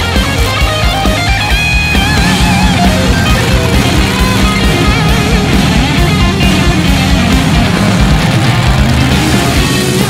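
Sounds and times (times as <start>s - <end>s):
electric guitar lead: 0.0s - 10.0s
pounding drum beat: 0.0s - 10.0s.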